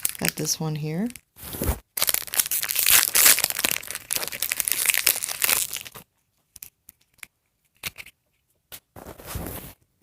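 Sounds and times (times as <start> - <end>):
plastic wrapper crinkling: 0.0 - 8.2.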